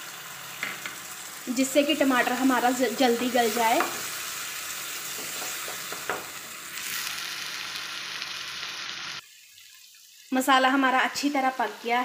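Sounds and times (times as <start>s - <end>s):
masala sizzling: 0.0s - 12.0s.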